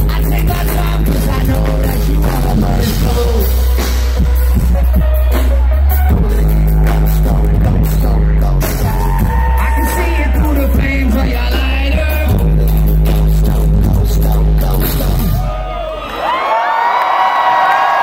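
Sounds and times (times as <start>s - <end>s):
person singing: 0.0s - 15.5s
heavy deep bass: 0.0s - 15.8s
loud live concert music: 0.0s - 18.0s.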